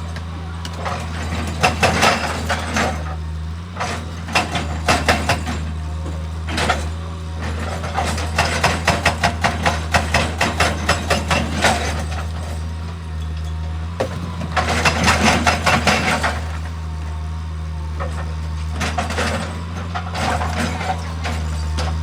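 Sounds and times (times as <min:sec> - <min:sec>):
heavy machinery diesel engine: 0:00.0 - 0:22.0.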